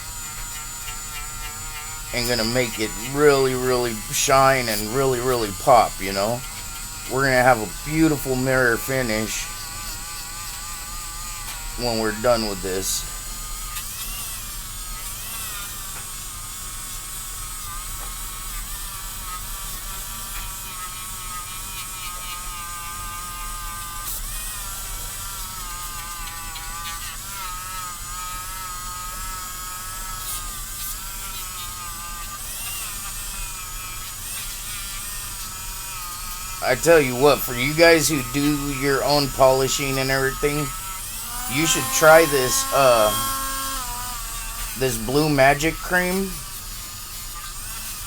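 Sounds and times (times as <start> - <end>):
rotary tool motor whine: 0.0 - 48.0.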